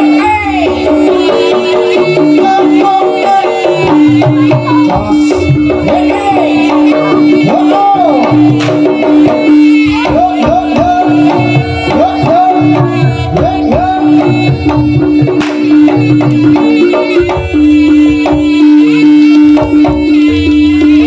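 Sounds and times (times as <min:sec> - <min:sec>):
hand drums: 0:00.0 - 0:21.0
long held tone: 0:00.0 - 0:21.0.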